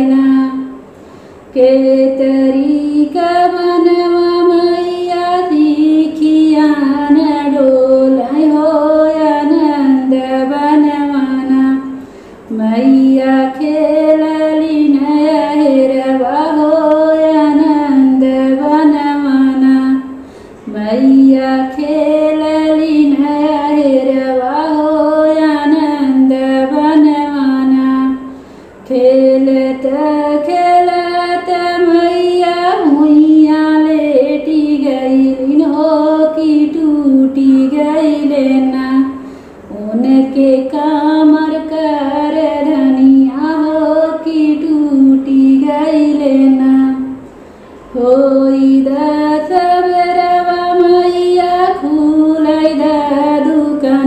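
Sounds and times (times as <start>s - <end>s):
woman singing unaccompanied: 0.0s - 0.9s, 1.5s - 47.2s, 47.9s - 54.0s.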